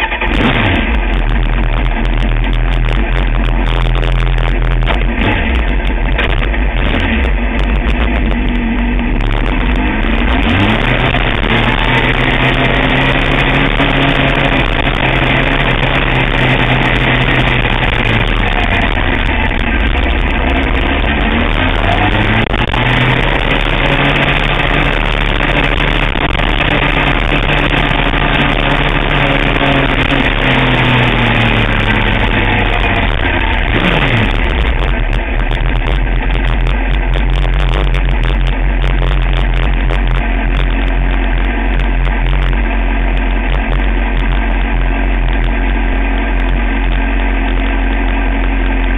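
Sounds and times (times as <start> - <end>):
sportbike engine revving: 0.0 - 48.9.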